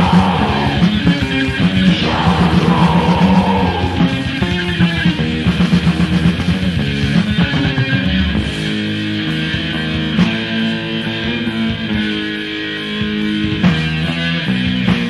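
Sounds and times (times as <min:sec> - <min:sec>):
death metal song: 0:00.0 - 0:14.9.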